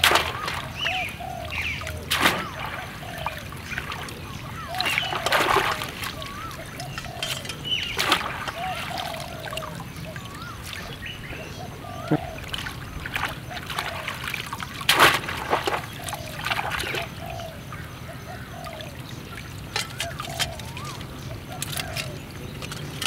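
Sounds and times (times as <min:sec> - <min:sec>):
muddy water splashing: 0:00.0 - 0:23.0.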